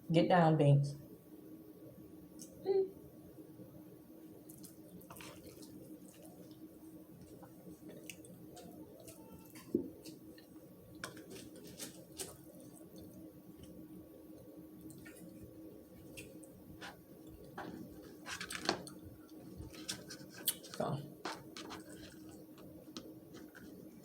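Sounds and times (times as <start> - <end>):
faint steady hum: 0.0 - 24.0
person chewing: 4.4 - 24.0.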